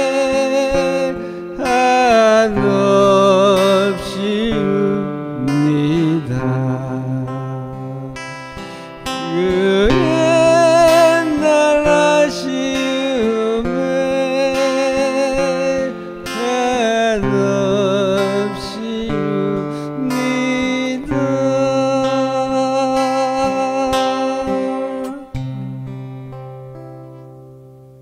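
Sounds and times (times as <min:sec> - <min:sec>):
man singing: 0:00.0 - 0:25.4
acoustic guitar strumming: 0:00.0 - 0:28.0.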